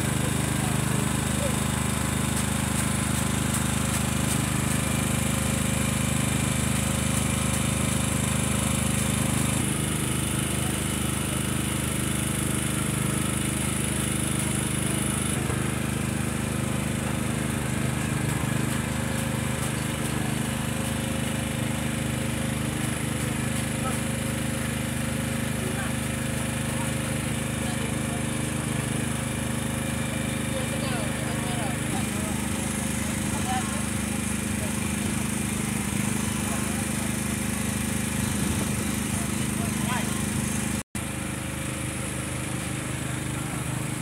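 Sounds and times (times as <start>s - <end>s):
small motor humming: 0.0s - 44.0s.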